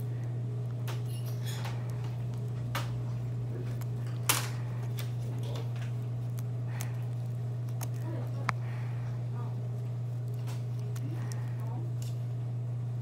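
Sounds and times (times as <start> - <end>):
steady low hum: 0.0 - 13.0
blade clicking on fish bone: 0.7 - 8.9, 9.8 - 12.2.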